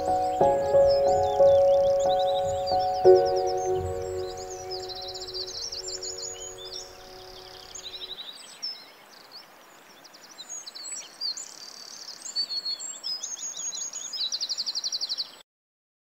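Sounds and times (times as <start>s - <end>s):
songbirds singing and chirping: 0.0s - 15.4s.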